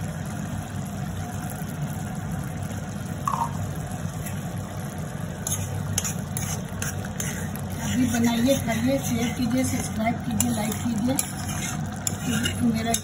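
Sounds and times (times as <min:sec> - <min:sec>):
gas stove rumble: 0:00.0 - 0:13.0
thick sauce simmering: 0:00.0 - 0:13.0.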